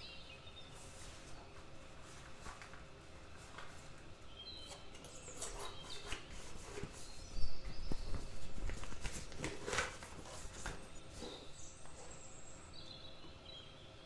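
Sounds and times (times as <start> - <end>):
piping bag rustling: 0.8 - 12.2.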